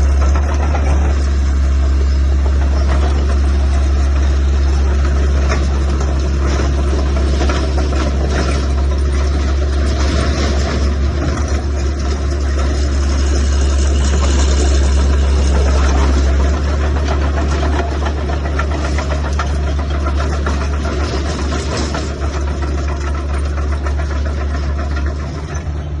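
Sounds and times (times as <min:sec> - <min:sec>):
bulldozer diesel engine rumbling: 0:00.0 - 0:26.0.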